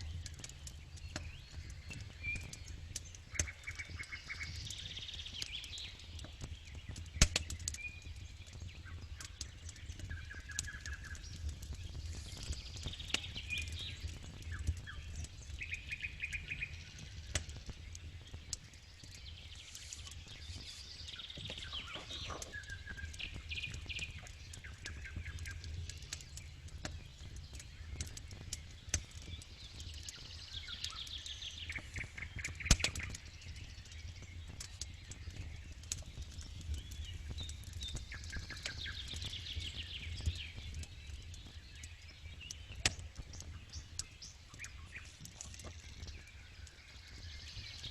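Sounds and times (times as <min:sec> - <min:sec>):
campfire crackling and popping: 0:00.0 - 0:47.9
birds chirping: 0:00.1 - 0:47.9.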